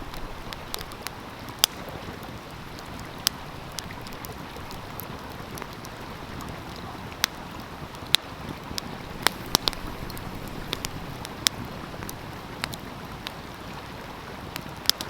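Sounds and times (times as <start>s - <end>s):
stream flowing: 0.0s - 15.0s
wood fire crackling and popping: 0.0s - 15.0s.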